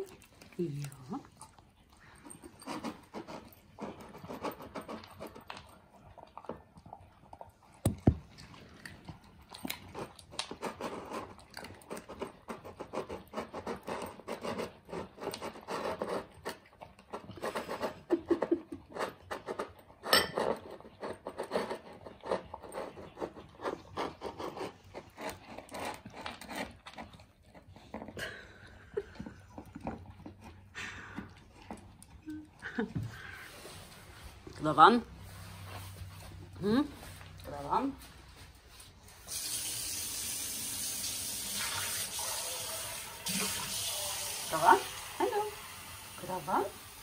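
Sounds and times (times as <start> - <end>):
dogs crunching dry kibble: 0.0 - 39.1.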